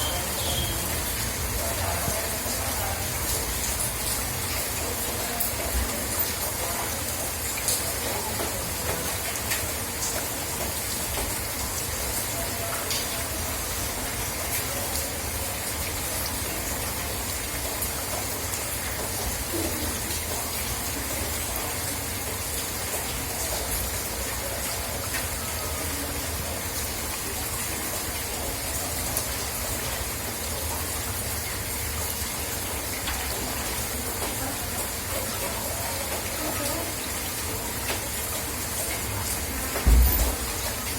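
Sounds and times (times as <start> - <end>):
raindrops ticking on surfaces: 0.0 - 40.9
steady rain hiss: 0.0 - 40.9.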